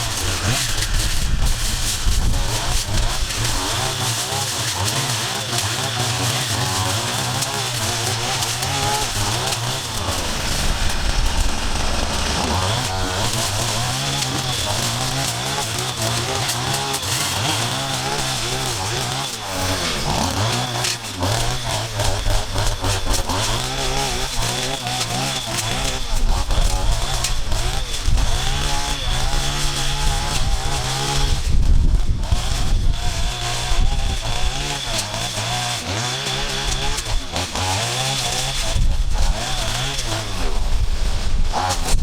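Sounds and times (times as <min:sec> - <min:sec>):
small two-stroke engines running: 0:00.0 - 0:42.0.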